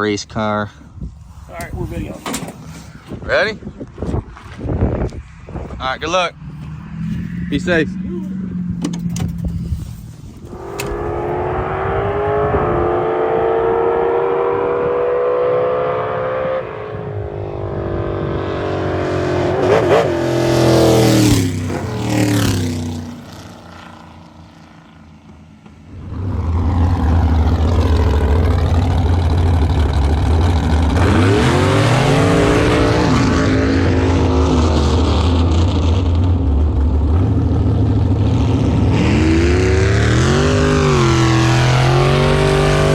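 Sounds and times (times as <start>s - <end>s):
race car engines at full throttle: 0.0s - 42.9s
cars passing loudly: 0.5s - 42.9s
low engine drone: 6.3s - 42.9s.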